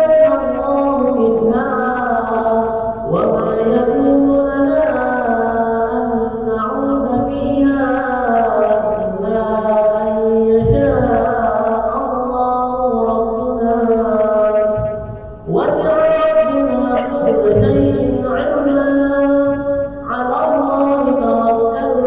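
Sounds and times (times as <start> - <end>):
person reciting melodically: 0.0 - 22.0.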